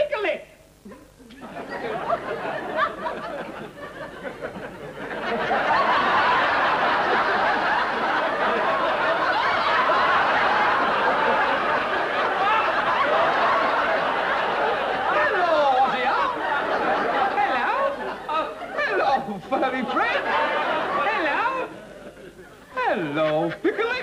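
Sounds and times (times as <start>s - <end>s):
studio audience laughing: 1.4s - 23.8s.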